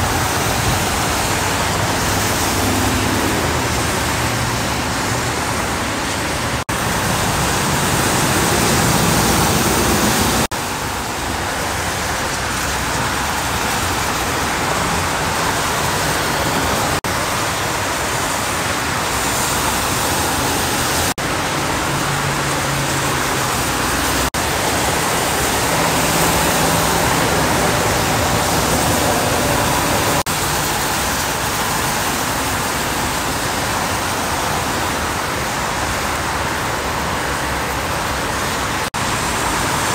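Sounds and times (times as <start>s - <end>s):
tyres hissing on wet road: 0.0s - 39.9s.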